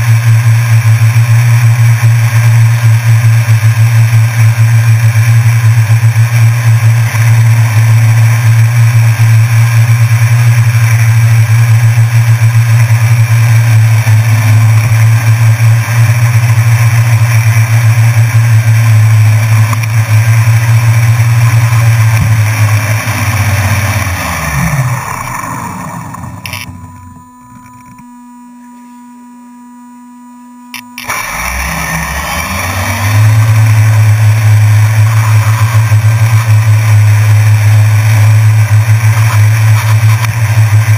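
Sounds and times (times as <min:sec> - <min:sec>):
drone propellers whirring: 0:00.0 - 0:40.9
faint electronic hum: 0:00.0 - 0:40.9.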